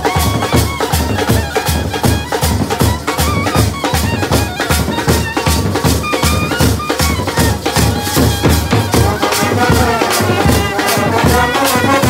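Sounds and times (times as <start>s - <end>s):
bass drum and snare beat: 0.0s - 12.0s
clarinet and trumpets melody: 0.0s - 12.0s.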